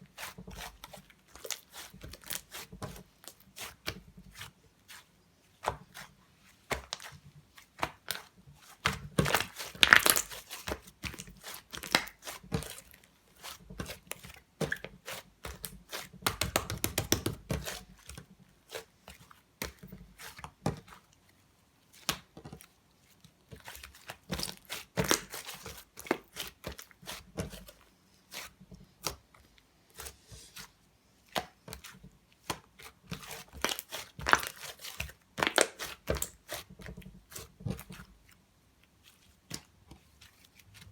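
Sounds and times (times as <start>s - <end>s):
slime squishing: 0.0s - 40.9s.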